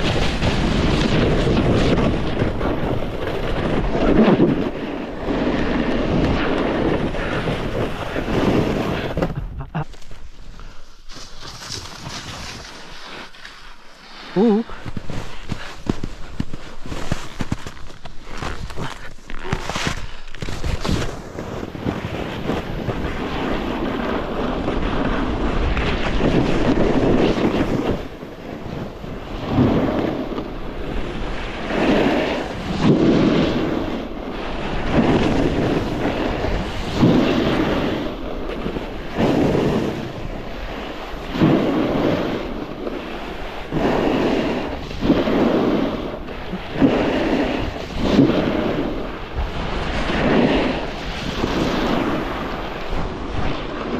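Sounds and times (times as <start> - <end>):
snowboard edge scraping snow: 0.0 - 53.9
wind noise on microphone: 0.0 - 53.9.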